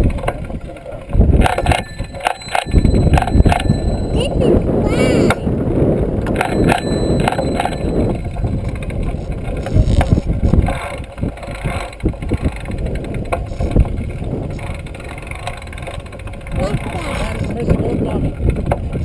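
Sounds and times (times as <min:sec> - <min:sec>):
bike rattling over bumps: 0:00.0 - 0:19.0
road noise: 0:00.0 - 0:19.0
wind noise on microphone: 0:00.0 - 0:19.0.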